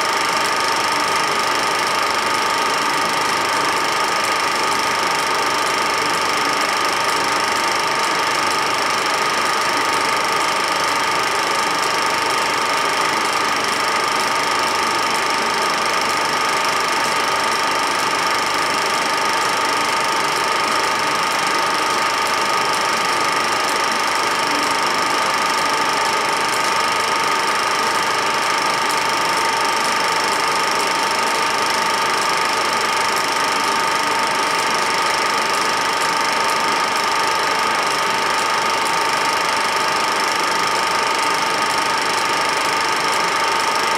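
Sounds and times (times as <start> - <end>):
film projector whirring: 0.0 - 43.9.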